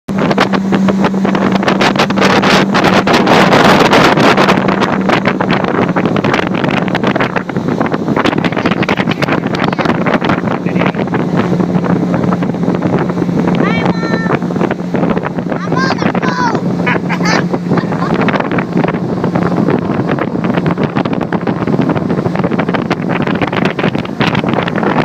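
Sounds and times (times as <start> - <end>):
boat motor running: 0.1 - 25.0
wind buffeting microphone: 0.1 - 25.0.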